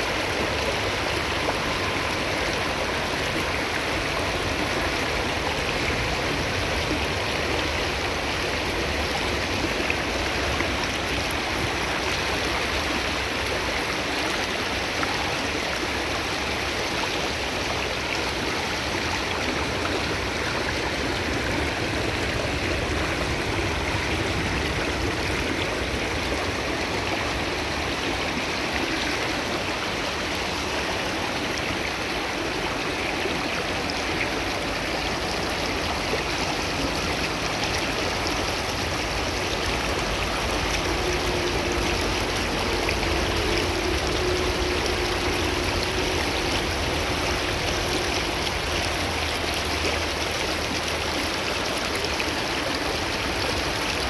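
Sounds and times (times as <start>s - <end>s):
water rippling over stones: 0.0s - 54.0s.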